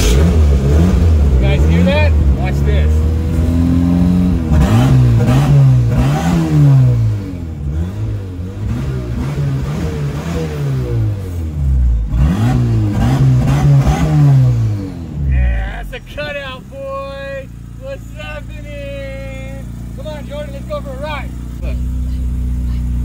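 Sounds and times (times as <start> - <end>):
truck engine idling and revving: 0.0 - 23.0.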